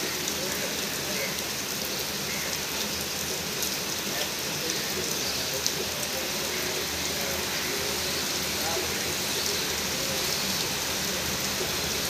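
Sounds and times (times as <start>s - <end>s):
heavy rain on roofs: 0.0s - 12.0s.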